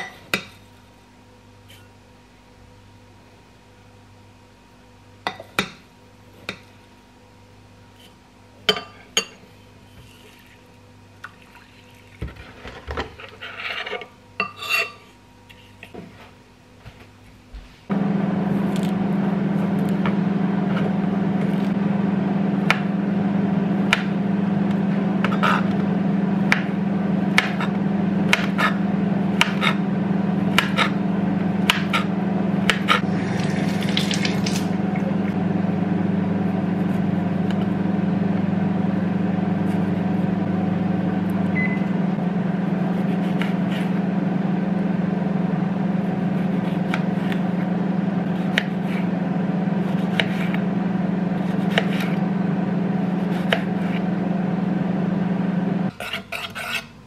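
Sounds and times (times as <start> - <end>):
low appliance hum: 0.0 - 57.0.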